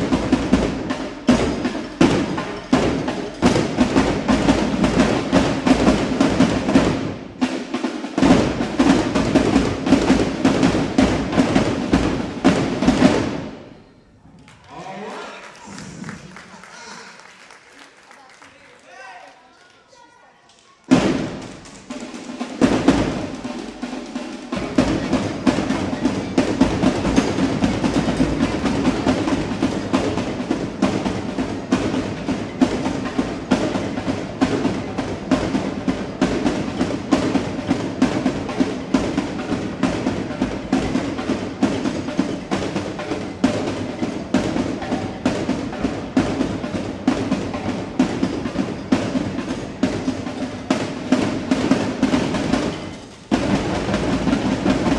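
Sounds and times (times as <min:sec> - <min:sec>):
marching drum line cadence: 0:00.0 - 0:54.9.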